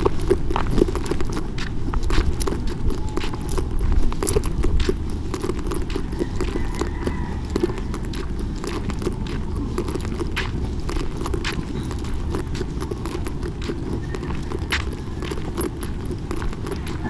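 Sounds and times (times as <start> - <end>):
footsteps on dirt road: 0.0 - 17.0
steady low rumble: 0.0 - 17.0.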